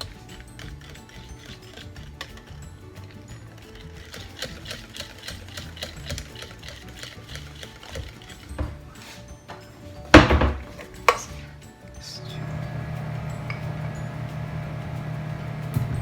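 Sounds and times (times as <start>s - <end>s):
background music with ticking beat: 0.0s - 16.0s.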